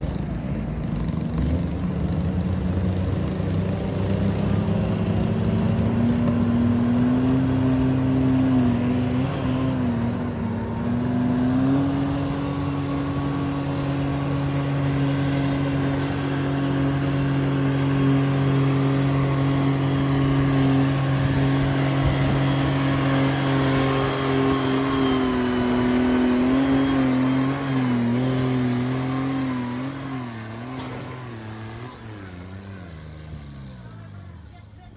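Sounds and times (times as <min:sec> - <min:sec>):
diesel tractor engine labouring: 0:00.0 - 0:34.9.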